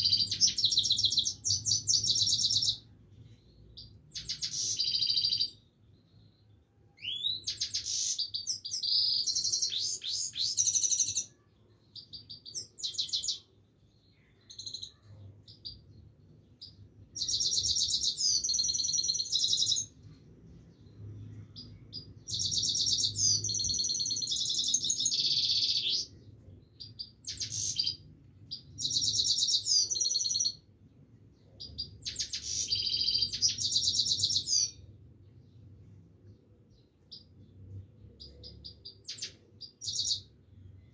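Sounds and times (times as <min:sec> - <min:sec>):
finch twittering song: 0:00.0 - 0:02.9, 0:03.5 - 0:30.7, 0:31.4 - 0:40.9.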